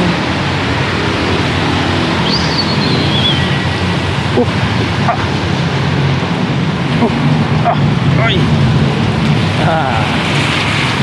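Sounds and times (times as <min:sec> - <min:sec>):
tyres on wet pavement: 0:00.0 - 0:11.0.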